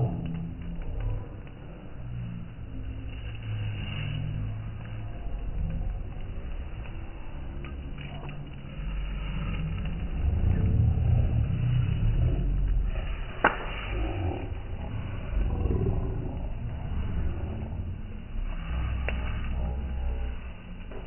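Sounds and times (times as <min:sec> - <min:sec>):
campfire rumble: 0:00.0 - 0:21.0
fire crackling: 0:00.0 - 0:21.0.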